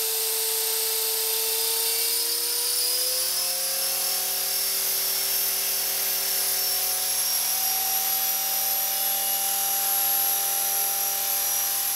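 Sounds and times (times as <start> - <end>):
rc helicopter motor whine: 0.0 - 11.9.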